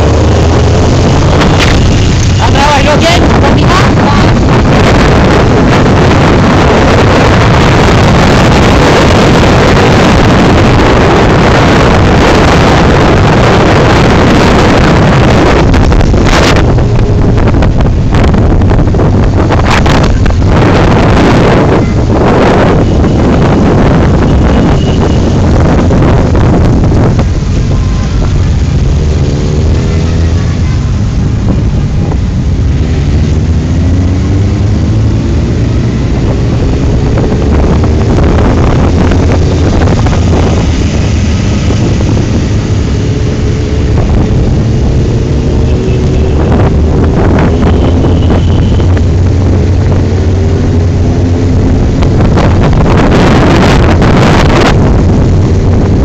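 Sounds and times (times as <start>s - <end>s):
motorcycle engines: 0.0s - 56.0s
wind buffeting microphone: 0.0s - 56.0s.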